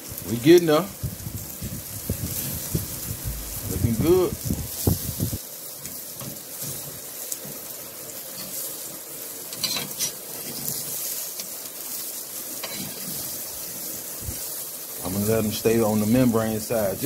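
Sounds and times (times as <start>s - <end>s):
faint crackles: 0.0s - 17.0s
fish sizzling on a grill: 0.0s - 17.0s.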